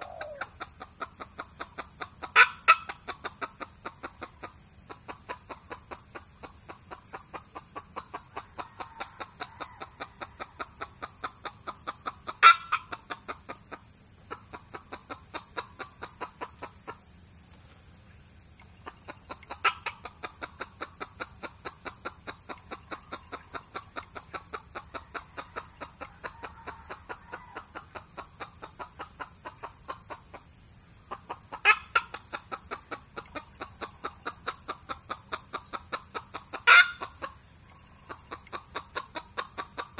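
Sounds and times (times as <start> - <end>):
junglefowl clucking: 0.0 - 39.9.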